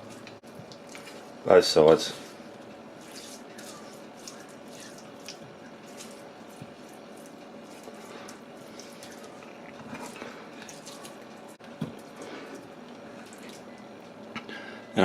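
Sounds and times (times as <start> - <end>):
hands rubbing raw chicken: 0.0 - 13.7.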